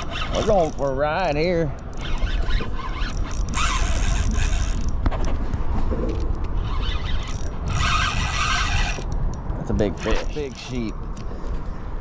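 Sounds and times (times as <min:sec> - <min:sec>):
fishing reel clicking and whirring: 0:00.0 - 0:05.0, 0:06.1 - 0:11.4.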